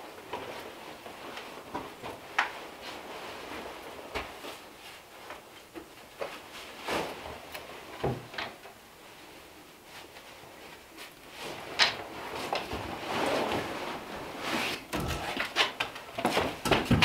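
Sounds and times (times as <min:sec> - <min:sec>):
fabric rustling: 0:00.0 - 0:08.0, 0:08.8 - 0:17.0.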